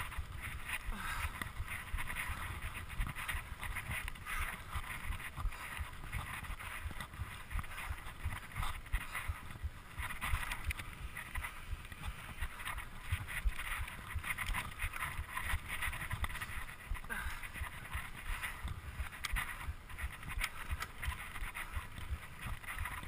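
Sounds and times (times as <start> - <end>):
bike rattling over bumps: 0.0 - 23.0.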